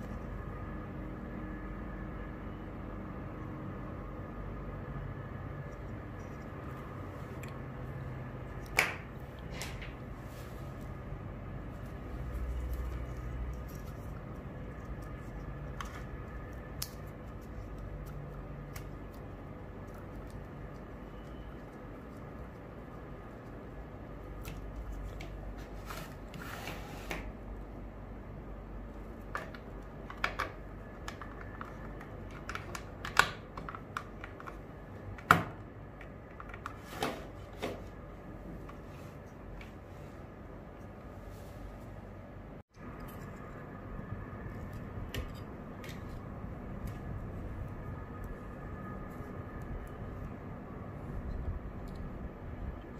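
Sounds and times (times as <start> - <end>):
steady low hum: 0.0 - 26.4, 27.3 - 52.9.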